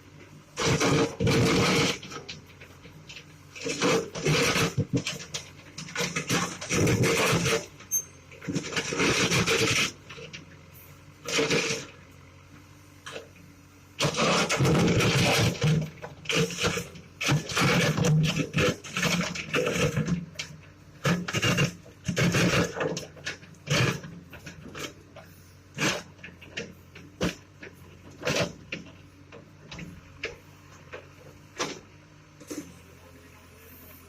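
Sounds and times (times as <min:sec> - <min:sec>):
backhoe engine running: 0:00.0 - 0:34.0.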